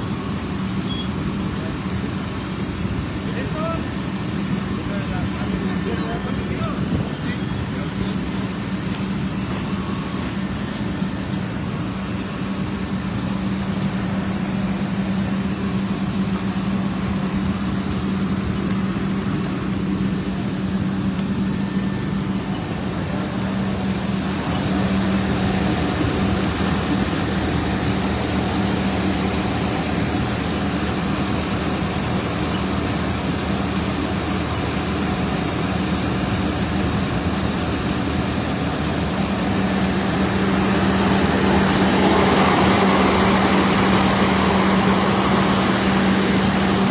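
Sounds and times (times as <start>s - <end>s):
heavy vehicle engine humming: 0.0s - 46.9s.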